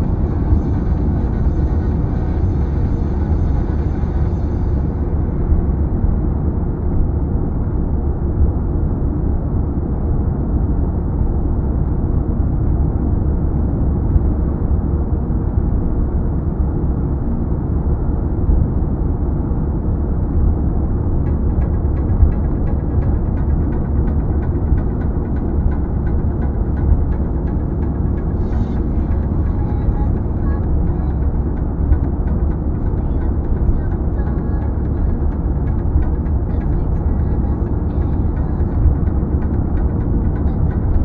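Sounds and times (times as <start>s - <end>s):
car road and engine noise: 0.0s - 41.0s.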